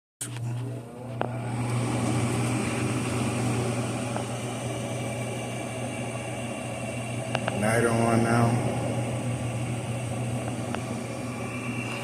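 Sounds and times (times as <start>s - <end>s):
furnace motor humming: 0.2s - 12.0s.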